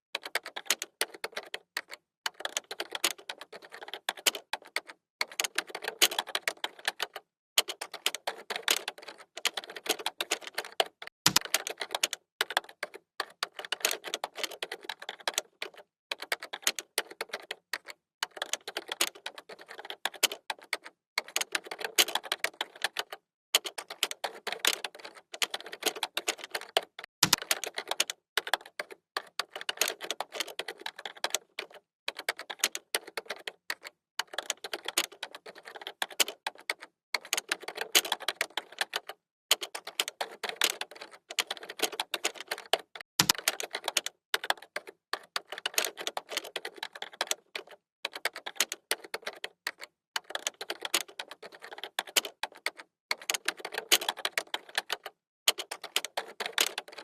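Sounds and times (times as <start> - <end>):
computer keyboard typing: 0.1 - 57.0.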